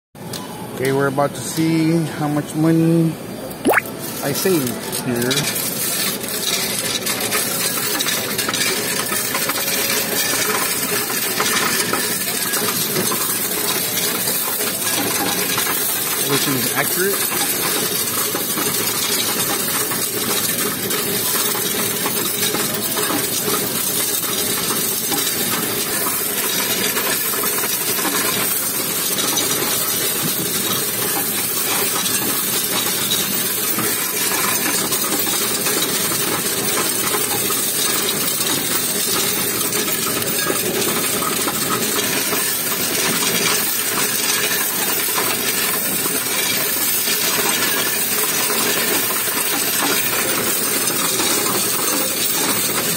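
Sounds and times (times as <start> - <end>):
coins rattling through counter: 4.0 - 52.9.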